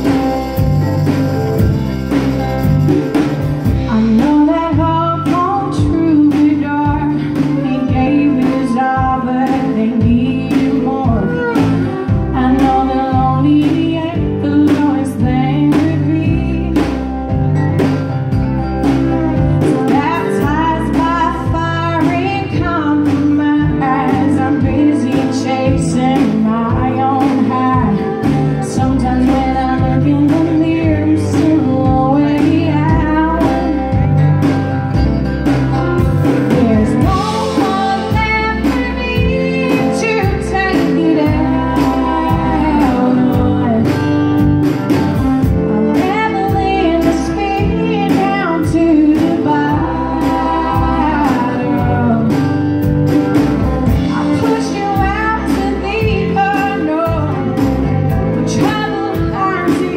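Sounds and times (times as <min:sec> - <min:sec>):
woman singing: 0:00.0 - 0:01.4, 0:03.6 - 0:17.8, 0:18.9 - 0:34.6, 0:36.0 - 0:59.9
live band playing: 0:00.0 - 0:59.9
steady drum beats: 0:00.0 - 0:59.9.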